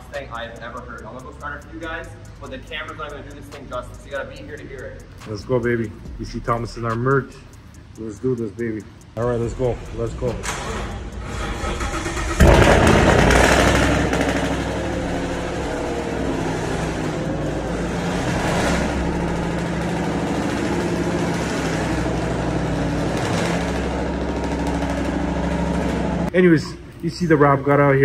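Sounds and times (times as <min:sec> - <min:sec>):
car engine starting and idling: 0:00.0 - 0:28.0.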